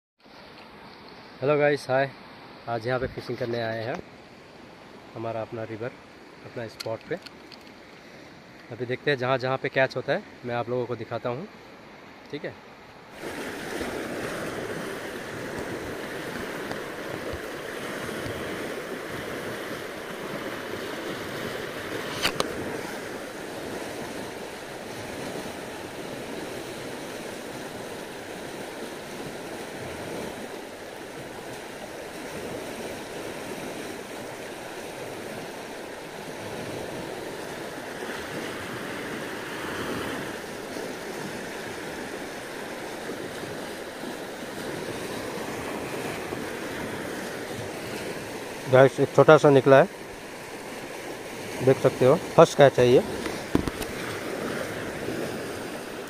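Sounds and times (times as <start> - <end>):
river rushing turbulently: 0.3 - 56.0.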